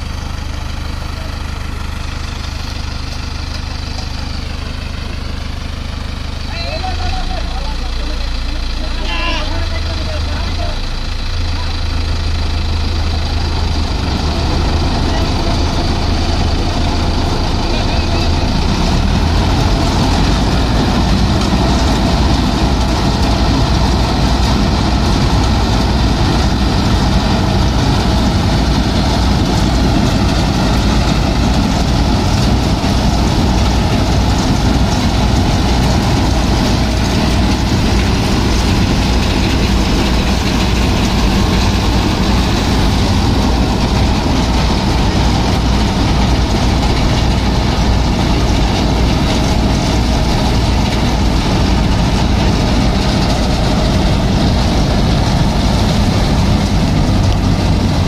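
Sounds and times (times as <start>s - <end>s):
harvester machinery running: 0.0s - 58.0s
tractor diesel engine running: 0.0s - 58.0s.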